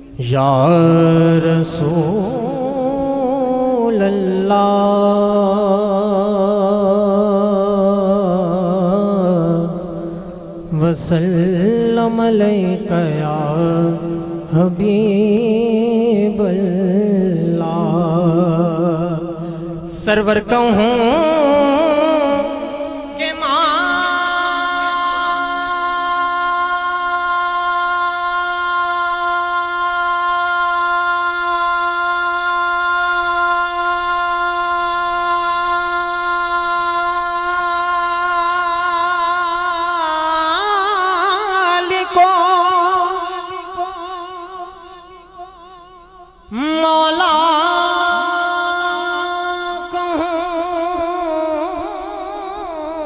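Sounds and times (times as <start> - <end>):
man singing into a microphone: 0.0 - 53.0.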